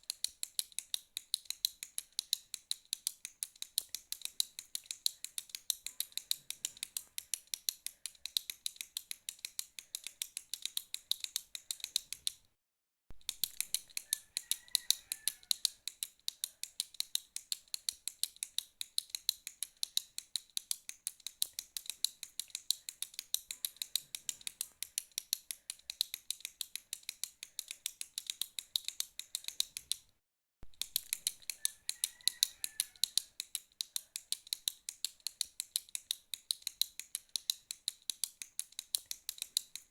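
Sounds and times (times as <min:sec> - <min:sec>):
ballpoint pen clicking: 0:00.0 - 0:12.5, 0:13.2 - 0:30.1, 0:30.7 - 0:39.9.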